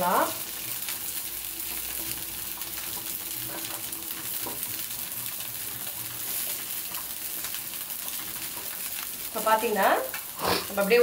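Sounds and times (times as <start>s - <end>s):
faint crackles: 0.0s - 11.0s
oil sizzling on hot griddle: 0.0s - 11.0s.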